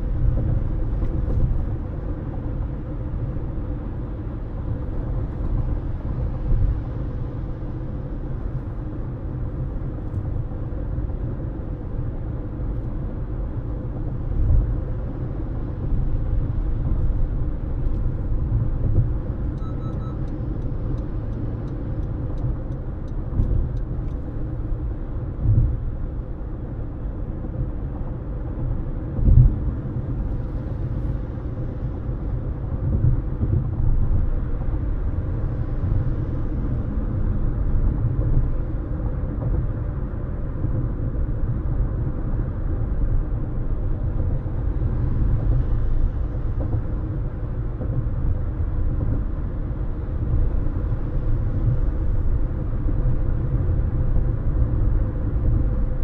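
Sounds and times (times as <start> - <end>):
car road rumble from inside: 0.0 - 56.0.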